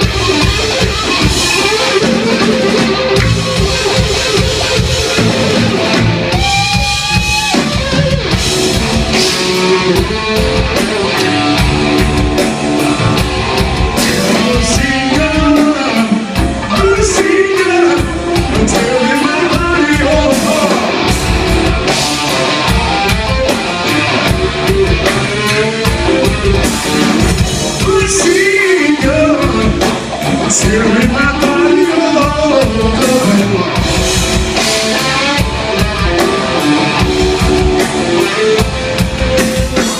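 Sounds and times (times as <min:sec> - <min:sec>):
bending guitar lead line: 0:00.0 - 0:39.9
live rock band: 0:00.0 - 0:39.9.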